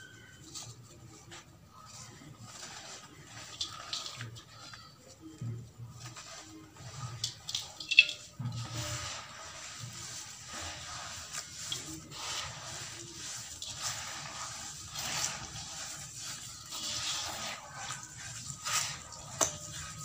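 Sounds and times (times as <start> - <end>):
wet sand mix scrunched by hand: 0.0 - 20.0.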